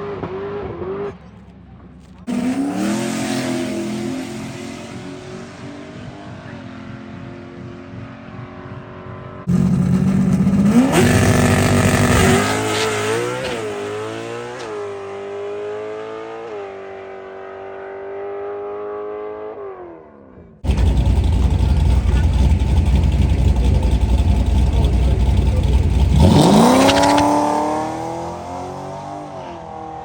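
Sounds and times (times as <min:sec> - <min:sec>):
drag car engine accelerating: 0:00.0 - 0:16.9, 0:20.6 - 0:30.0.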